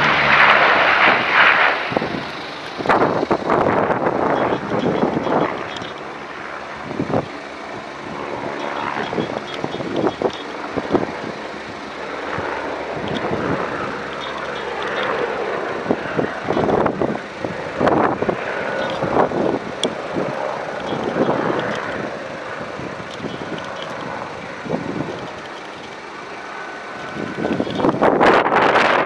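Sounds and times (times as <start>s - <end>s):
aircraft engine drone: 0.0s - 29.0s.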